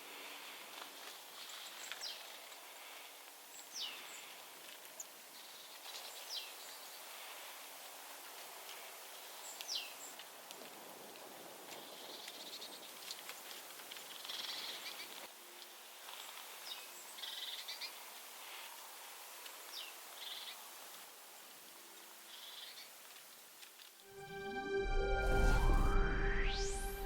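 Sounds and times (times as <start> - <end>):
faint outdoor background: 0.0 - 27.0.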